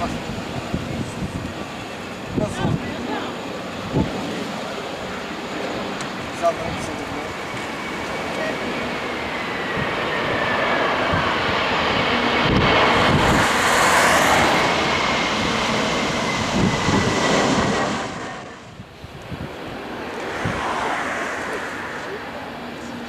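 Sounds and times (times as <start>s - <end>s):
jet engines rushing and whining: 0.0s - 23.0s
wind buffeting microphone: 0.0s - 23.0s.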